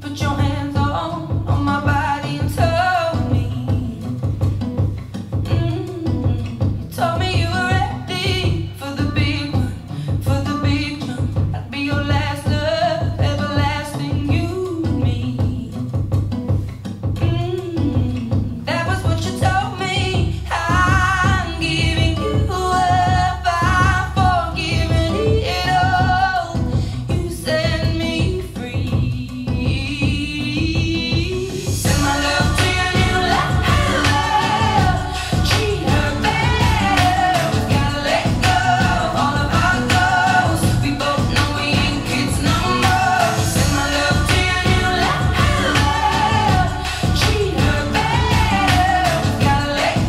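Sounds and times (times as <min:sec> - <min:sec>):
person singing lead vocal: 0:00.0 - 0:04.7, 0:05.4 - 0:16.1, 0:17.2 - 0:50.0
pop song over studio monitor: 0:00.0 - 0:50.0
drum and bass beat: 0:00.2 - 0:50.0.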